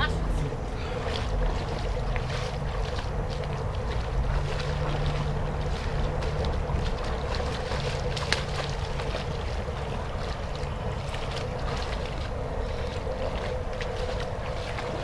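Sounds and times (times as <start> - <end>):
creek water running and splashing: 0.0 - 15.0
wind rumbling on microphone: 0.0 - 15.0.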